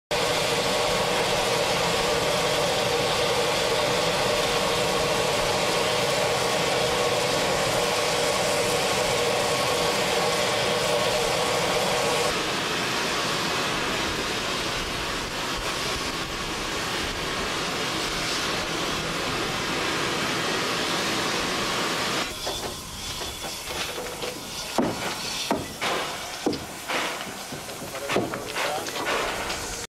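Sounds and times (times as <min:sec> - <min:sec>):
machinery noise: 0:00.1 - 0:29.9
steam hissing: 0:00.1 - 0:29.9.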